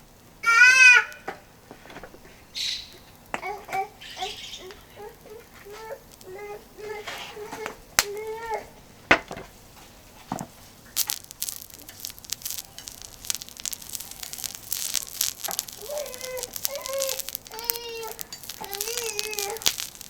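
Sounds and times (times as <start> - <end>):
oil crackling on a hot griddle: 0.0 - 20.0.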